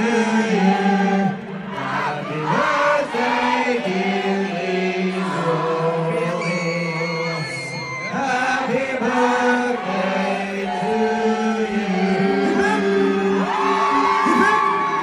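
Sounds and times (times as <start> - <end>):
group of people singing: 0.0 - 15.0.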